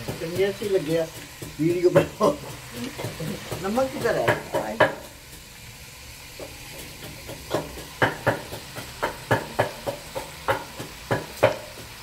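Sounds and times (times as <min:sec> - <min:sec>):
pestle pounding in mortar: 0:00.0 - 0:05.5, 0:06.4 - 0:12.0.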